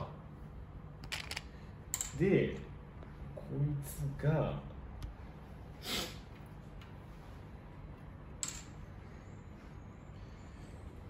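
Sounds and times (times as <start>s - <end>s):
faint low room hum: 0.0s - 11.0s.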